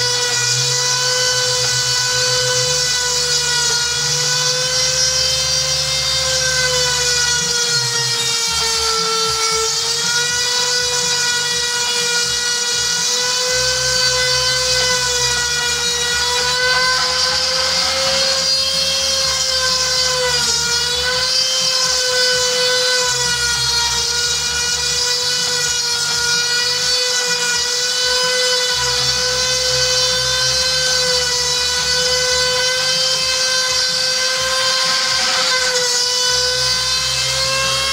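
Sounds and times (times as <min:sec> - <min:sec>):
rotary tool high whine: 0:00.0 - 0:37.9.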